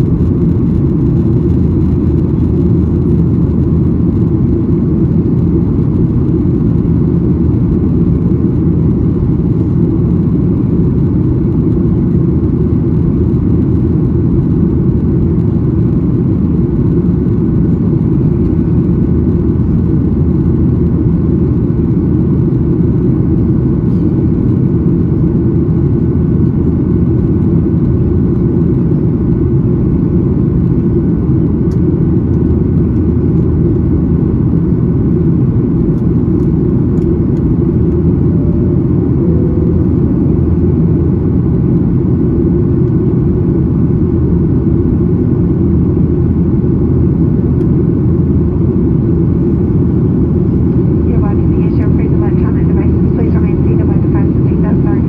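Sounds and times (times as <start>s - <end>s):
airplane cabin roar: 0.0s - 55.0s.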